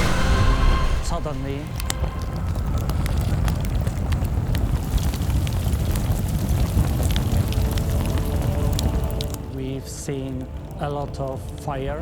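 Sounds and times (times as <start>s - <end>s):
crackles and pops: 0.0s - 12.0s
deep rumbling roar of fire: 0.0s - 12.0s.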